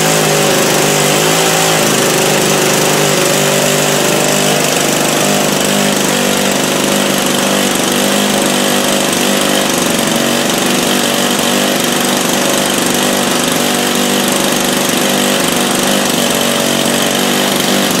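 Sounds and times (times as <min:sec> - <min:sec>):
model plane engine running: 0:00.0 - 0:18.0.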